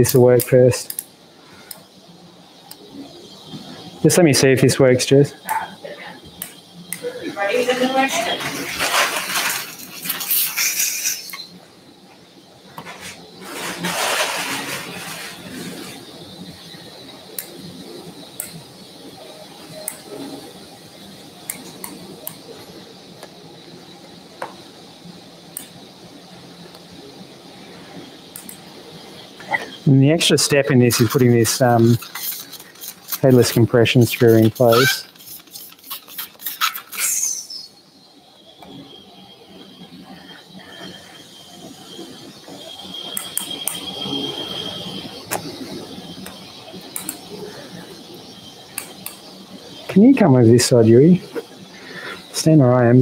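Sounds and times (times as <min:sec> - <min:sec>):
faint steady hum: 0:00.0 - 0:53.0
high-pitched whine: 0:00.0 - 0:53.0.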